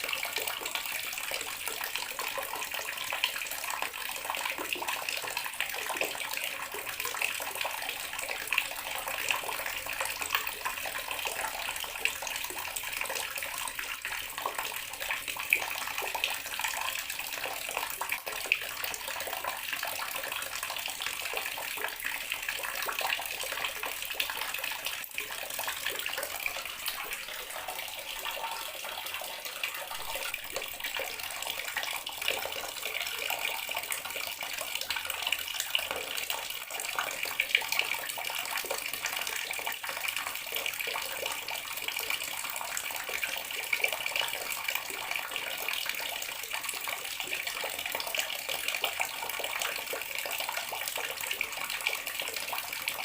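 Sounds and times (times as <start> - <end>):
tap water running into basin: 0.0 - 53.0.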